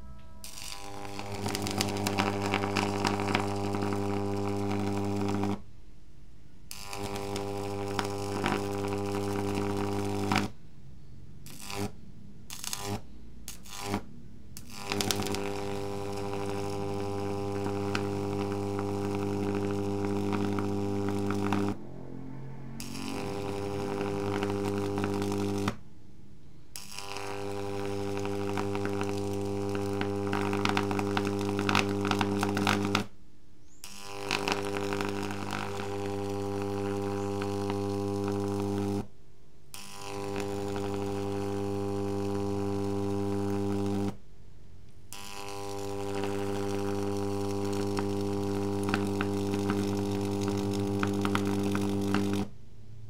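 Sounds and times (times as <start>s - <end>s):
buzzing high-voltage arc: 0.0s - 5.7s, 6.6s - 10.6s, 11.4s - 21.8s, 22.8s - 25.8s, 26.7s - 33.2s, 33.8s - 39.1s, 39.7s - 44.2s, 45.1s - 52.6s.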